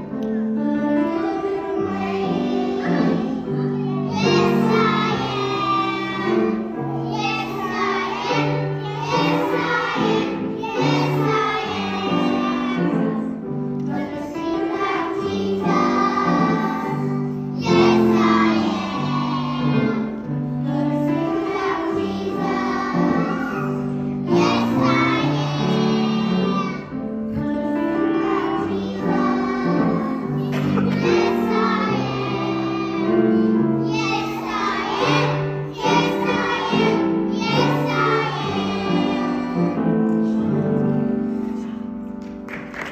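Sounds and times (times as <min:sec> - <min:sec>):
children singing: 0:00.0 - 0:41.1.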